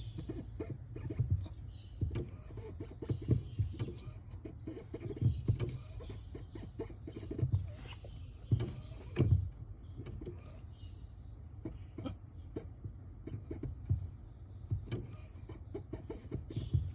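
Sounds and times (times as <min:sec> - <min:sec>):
brake pedal clicks and knocks: 0:00.0 - 0:16.9.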